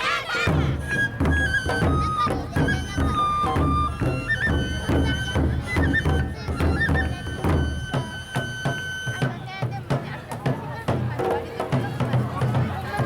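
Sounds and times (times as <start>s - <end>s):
taiko drums beating: 0.4s - 13.0s.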